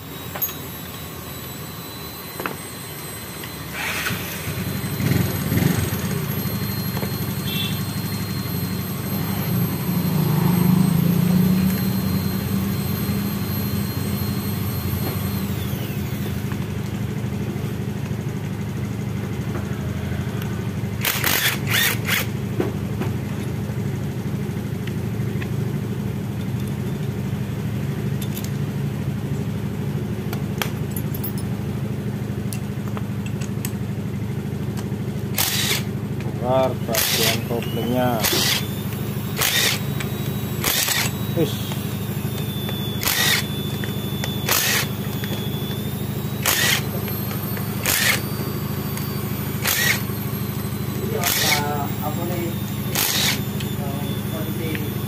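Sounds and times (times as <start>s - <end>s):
motor idling: 0.0s - 55.0s.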